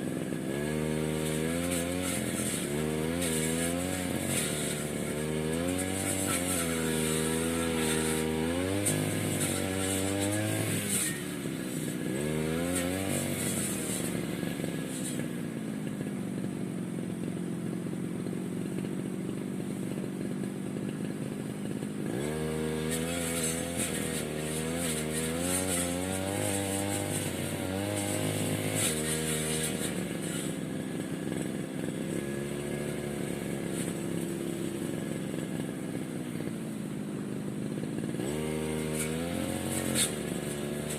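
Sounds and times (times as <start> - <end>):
grass cutter engine revving: 0.0 - 40.9.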